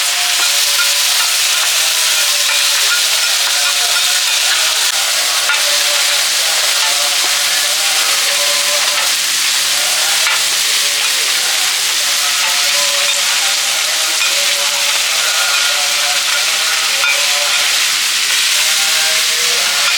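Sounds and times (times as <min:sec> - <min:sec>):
food sizzling in hot oil: 0:00.0 - 0:19.9.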